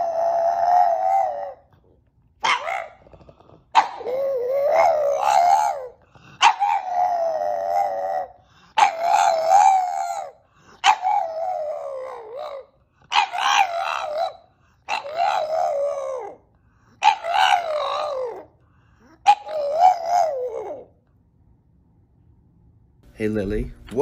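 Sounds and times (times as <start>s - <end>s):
dog howling: 0.0s - 18.6s, 19.2s - 21.0s.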